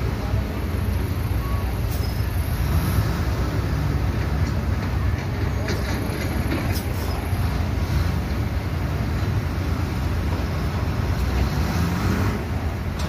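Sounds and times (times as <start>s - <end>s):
construction machinery rumbling: 0.0s - 13.0s.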